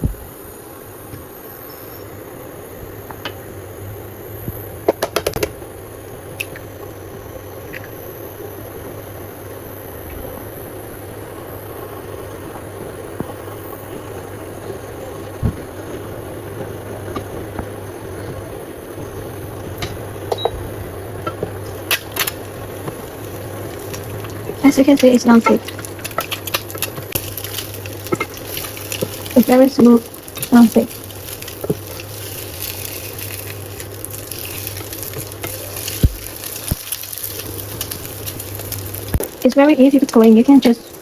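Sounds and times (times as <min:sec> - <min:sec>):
egg sizzling in a pan: 0:05.0 - 0:18.4, 0:21.6 - 0:41.0.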